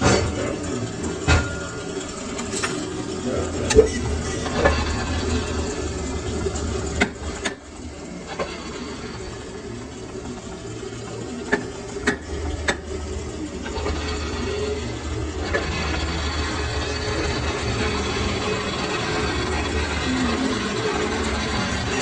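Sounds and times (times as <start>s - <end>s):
lathe humming: 0.0s - 22.0s.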